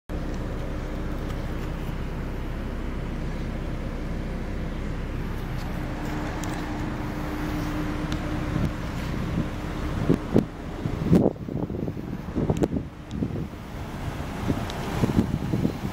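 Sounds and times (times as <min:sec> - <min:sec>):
low engine rumble: 0:00.1 - 0:15.9.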